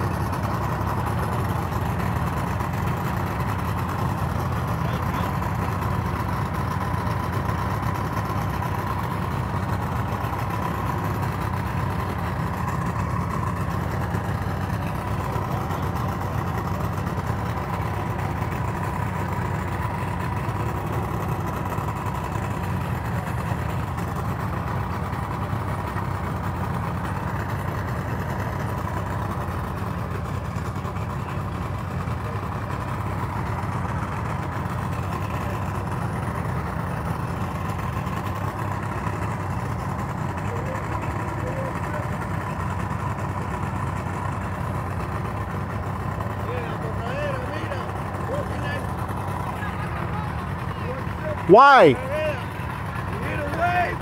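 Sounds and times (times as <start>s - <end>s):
outboard boat engines idling: 0.0s - 54.0s.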